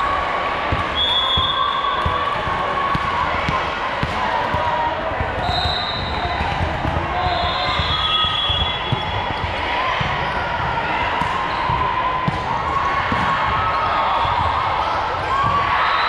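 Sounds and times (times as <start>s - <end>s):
crowd chatter in a gym: 0.0s - 16.0s.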